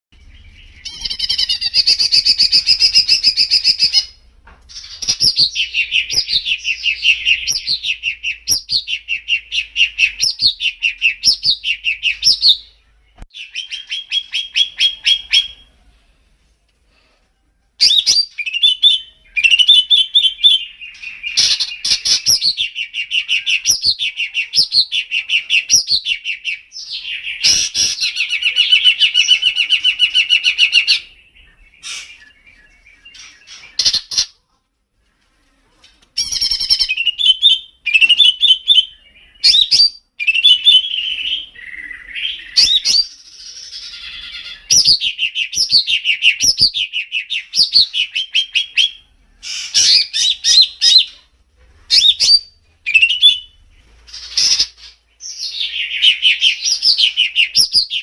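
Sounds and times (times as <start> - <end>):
songbird singing: 0.2 - 16.3, 17.8 - 34.4, 36.2 - 58.0.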